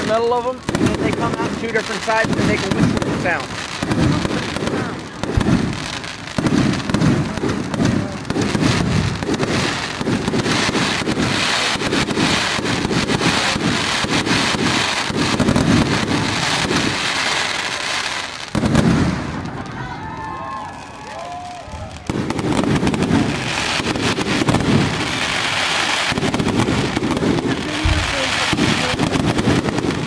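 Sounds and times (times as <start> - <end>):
fireworks booming: 0.0 - 30.0
fireworks crackling: 0.0 - 30.0.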